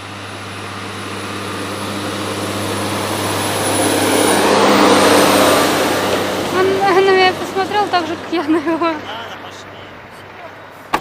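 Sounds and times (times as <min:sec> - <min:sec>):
large vehicle engine passing: 0:00.0 - 0:11.0
road noise: 0:00.0 - 0:11.0.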